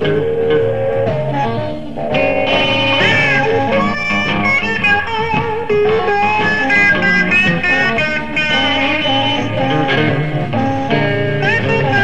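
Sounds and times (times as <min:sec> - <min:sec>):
electric blues band: 0:00.0 - 0:12.0
lead electric guitar bent notes: 0:00.0 - 0:12.0.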